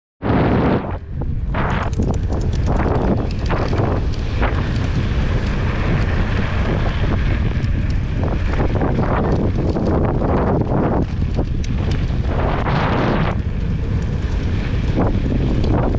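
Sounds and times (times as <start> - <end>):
wind buffeting microphone: 0.2 - 15.9
bike clicks and knocks on rough ground: 1.2 - 15.9.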